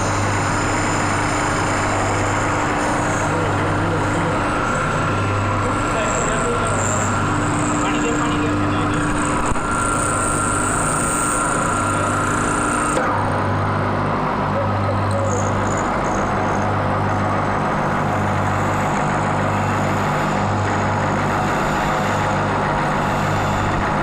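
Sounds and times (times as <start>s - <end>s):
high-pitched whine: 0.0s - 24.0s
lathe running: 0.0s - 24.0s.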